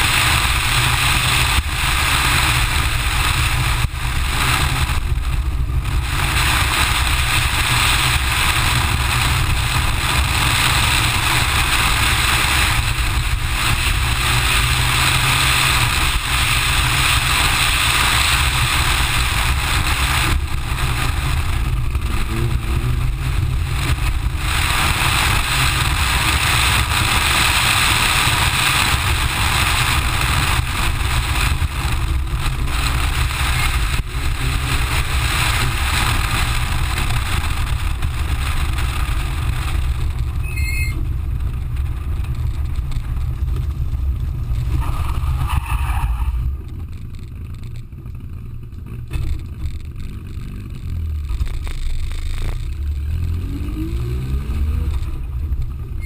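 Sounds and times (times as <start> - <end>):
rally car engine driven hard: 0.0 - 56.0
road noise: 0.0 - 56.0
wind rumble on microphone: 0.0 - 56.0.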